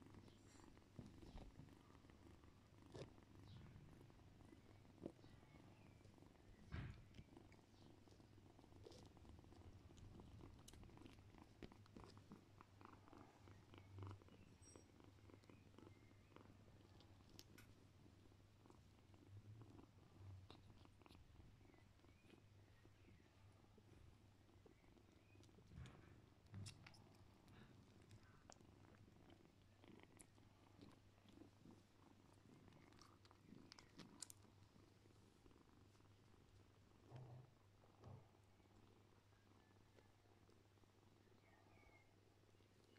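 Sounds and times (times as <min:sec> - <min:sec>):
cat purring: 0:00.0 - 0:42.9.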